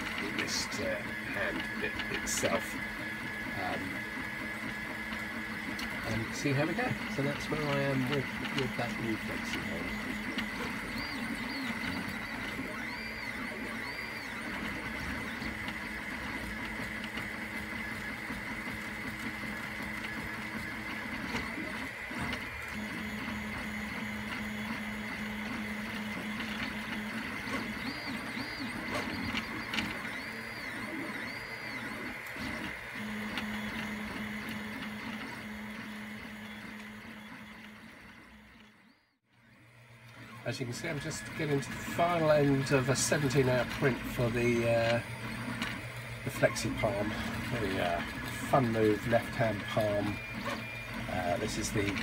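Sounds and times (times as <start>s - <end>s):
fan whirring: 0.0s - 37.8s, 39.5s - 52.0s
stepper motors whining: 0.0s - 52.0s.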